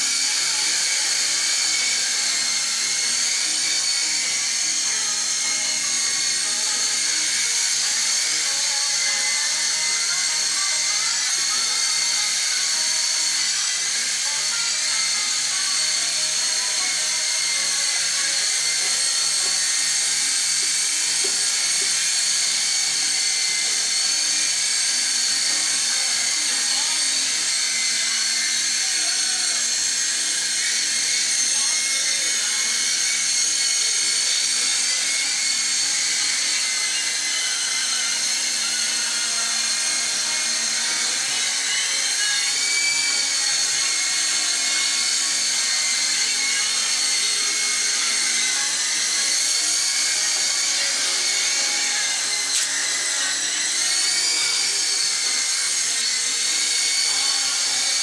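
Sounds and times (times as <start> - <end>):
toy helicopter rotors whining: 0.0 - 58.0.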